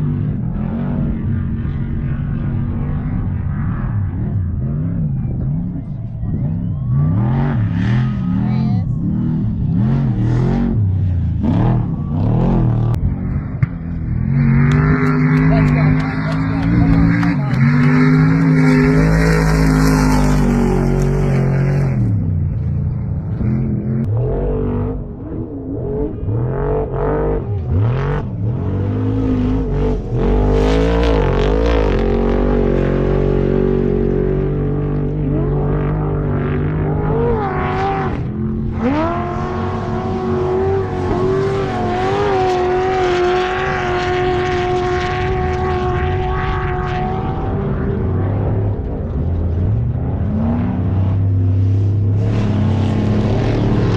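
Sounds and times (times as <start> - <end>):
off-road vehicle engines revving: 0.0 - 53.9.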